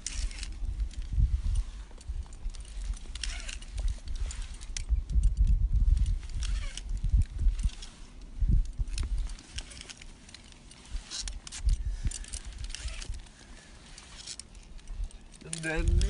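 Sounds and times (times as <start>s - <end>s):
metal climbing gear jingling: 0.0s - 16.0s
wind buffeting microphone: 0.0s - 16.0s.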